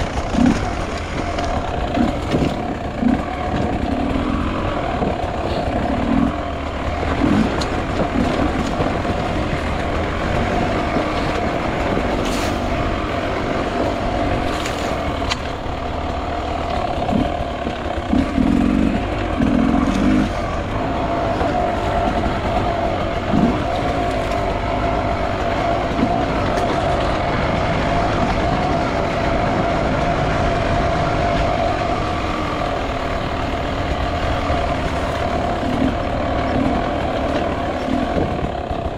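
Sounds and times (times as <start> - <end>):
two-stroke motorcycle engine running: 0.0 - 38.9.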